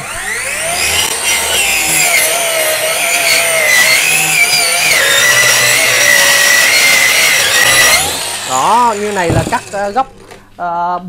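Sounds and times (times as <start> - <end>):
circular saw cutting wood: 0.0 - 10.4.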